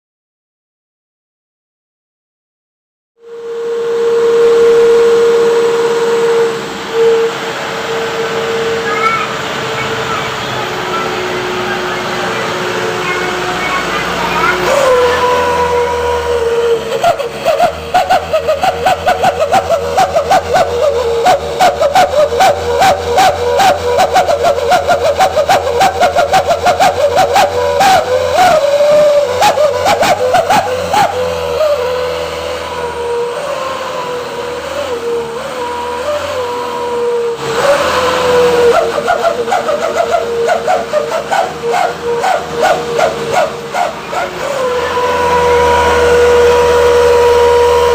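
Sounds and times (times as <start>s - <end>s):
truck exhaust whistle warbling: 3.2s - 47.9s.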